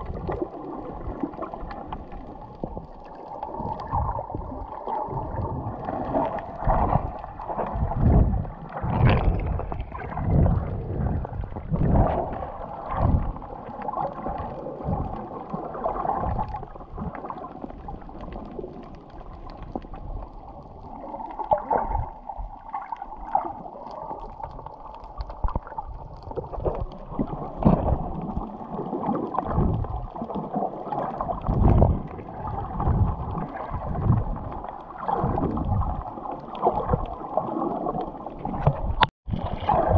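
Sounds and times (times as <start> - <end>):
muffled underwater gurgling: 0.0 - 39.9.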